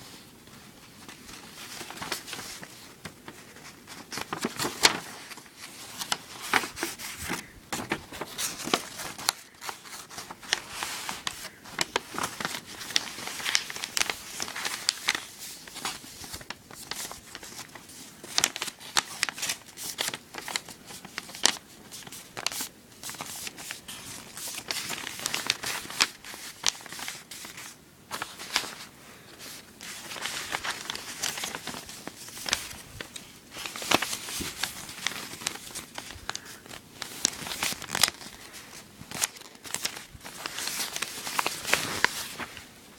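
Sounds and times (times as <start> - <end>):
paper crinkling as folded: 0.0 - 42.9.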